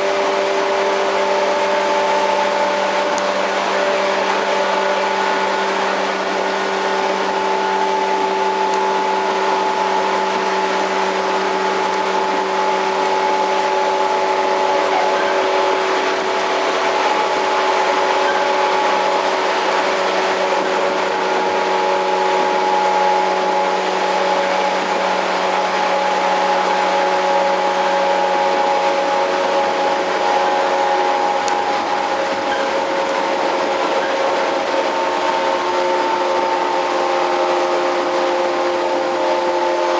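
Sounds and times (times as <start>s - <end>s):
traction motor tones: 0.0s - 39.9s
wheel and rail noise: 0.0s - 39.9s.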